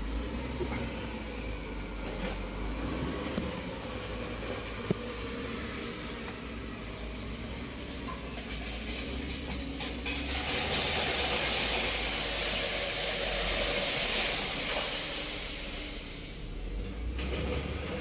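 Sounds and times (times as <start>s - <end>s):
hiss: 2.8s - 17.7s.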